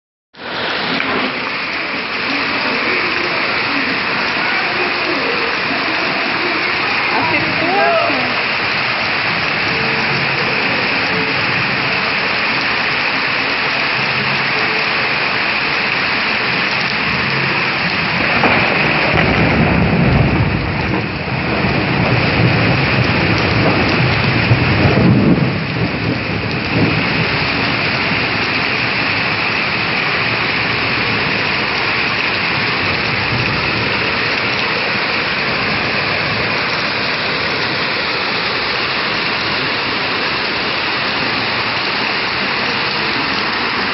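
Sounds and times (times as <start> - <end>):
steady rain falling: 0.4 - 43.9.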